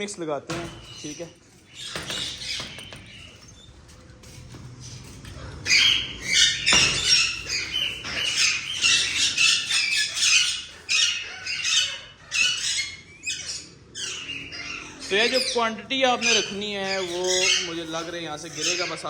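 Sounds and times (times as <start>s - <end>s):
parakeets squawking: 0.0s - 19.0s.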